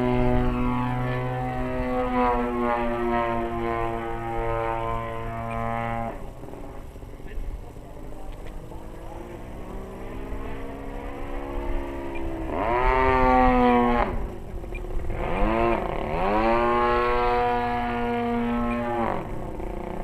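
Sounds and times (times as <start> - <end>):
model plane engine revving: 0.0 - 20.0.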